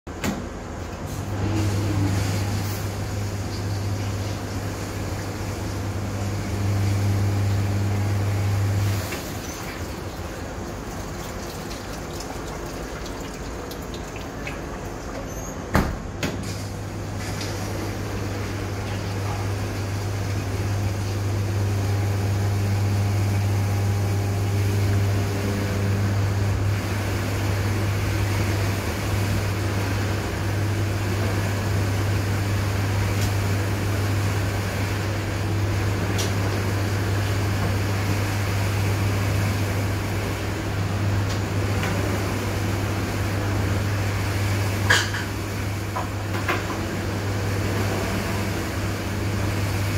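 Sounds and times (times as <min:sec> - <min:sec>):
dishwasher running: 0:00.1 - 0:49.9.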